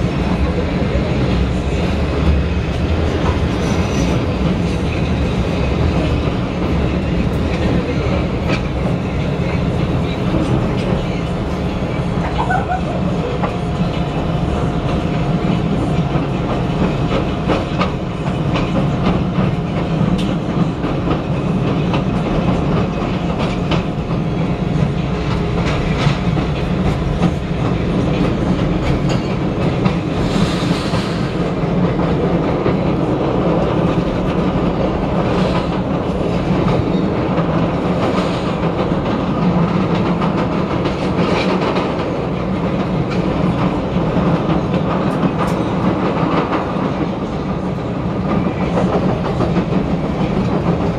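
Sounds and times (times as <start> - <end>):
train wheels on track: 0.0 - 50.9.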